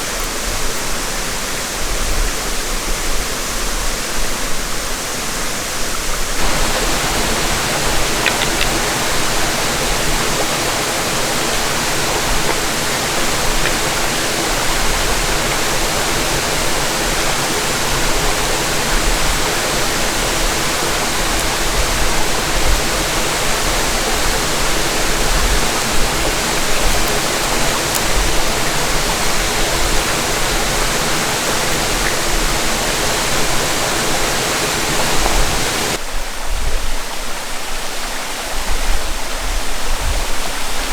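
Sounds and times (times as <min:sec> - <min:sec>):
creek rushing: 0:00.0 - 0:40.9.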